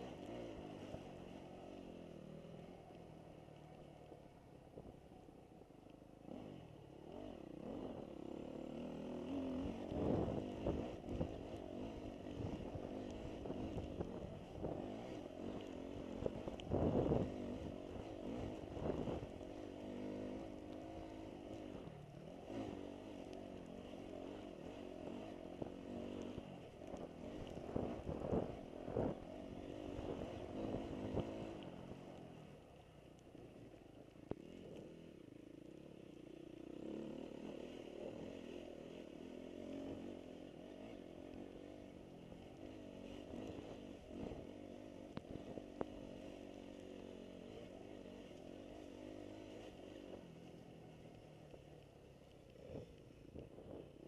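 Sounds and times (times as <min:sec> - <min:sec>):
dirt bike engine revving: 0:00.0 - 0:02.8, 0:06.2 - 0:54.0.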